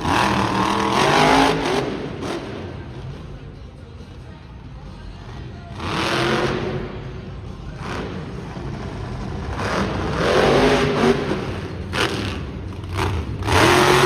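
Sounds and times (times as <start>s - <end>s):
monster truck engine revving: 0.0s - 3.5s, 5.7s - 14.0s.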